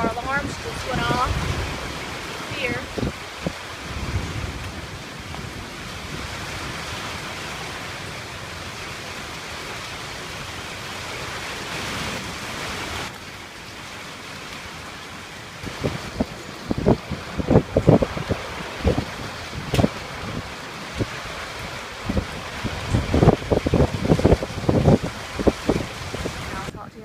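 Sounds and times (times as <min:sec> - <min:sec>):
heavy rain: 0:00.0 - 0:27.0
wind: 0:00.0 - 0:27.0.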